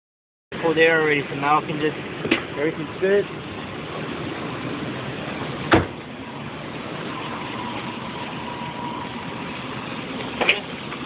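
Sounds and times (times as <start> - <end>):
car engine idling: 0.6 - 11.0.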